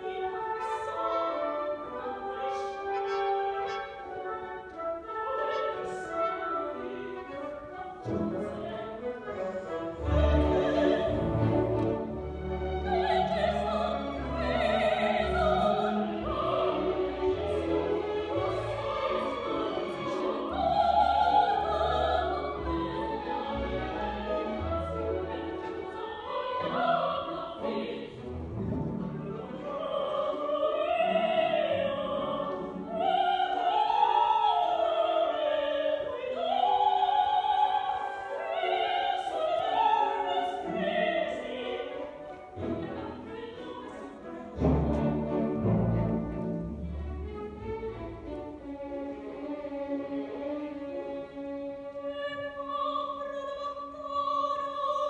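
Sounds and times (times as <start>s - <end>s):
orchestra playing: 0.0s - 53.7s
operatic singing: 0.0s - 55.0s.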